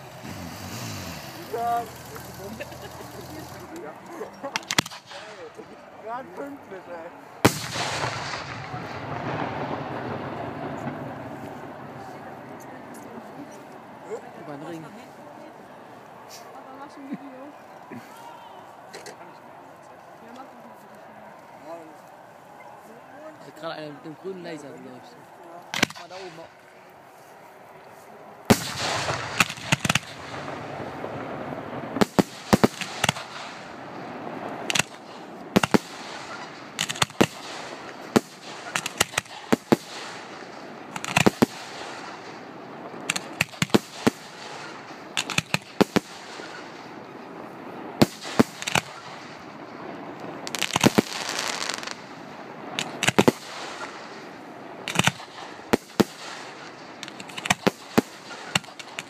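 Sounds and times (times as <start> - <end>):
fireworks crackling hiss: 0.0 - 15.3, 16.2 - 18.9, 25.6 - 59.0
firework bangs: 0.0 - 19.6, 22.4 - 27.0, 28.4 - 59.0.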